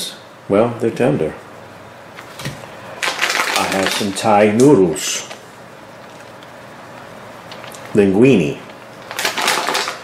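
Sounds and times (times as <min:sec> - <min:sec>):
room noise hiss: 0:00.0 - 0:10.0.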